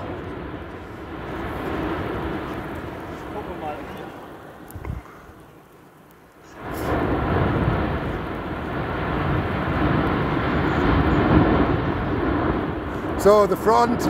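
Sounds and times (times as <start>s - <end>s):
volcano thunderous roar: 0.0s - 5.4s, 6.6s - 14.0s.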